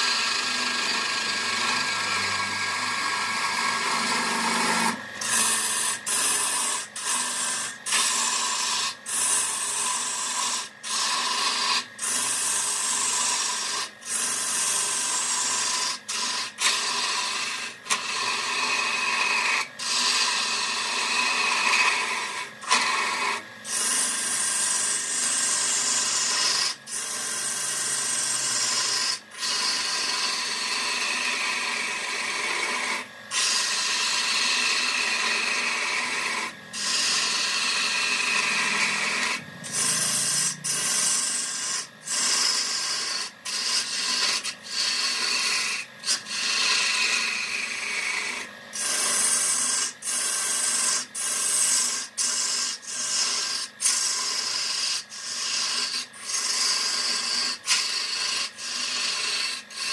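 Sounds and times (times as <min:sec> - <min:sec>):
tool scraping wood on lathe: 0:00.0 - 0:59.9.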